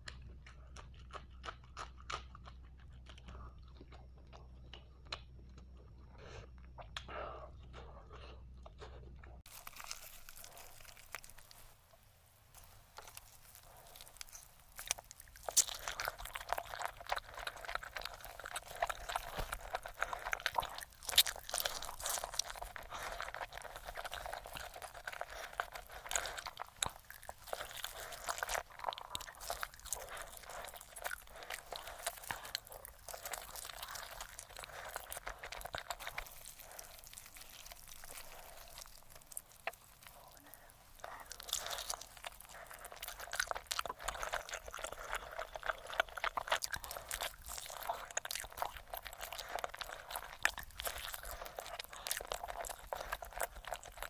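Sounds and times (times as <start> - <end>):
chewing crunchy chicken: 0.0 - 12.0, 12.6 - 54.0.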